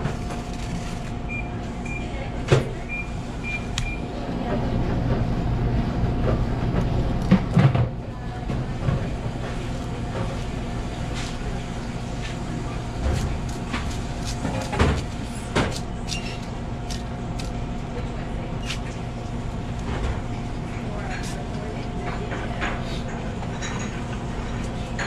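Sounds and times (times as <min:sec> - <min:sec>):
kitchen machinery humming: 0:00.0 - 0:25.0.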